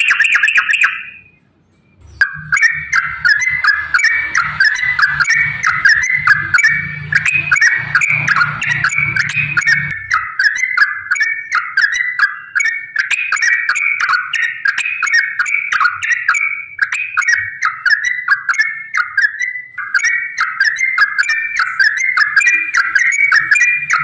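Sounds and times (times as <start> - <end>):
bulbul singing chattering phrases: 0.0 - 1.3, 2.0 - 24.0.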